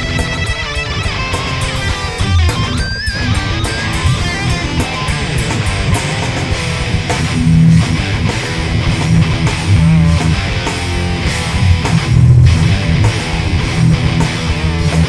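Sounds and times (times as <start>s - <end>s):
bass guitar: 0.0s - 15.0s
electric guitar: 0.0s - 15.0s
sharp hits: 1.4s - 15.0s.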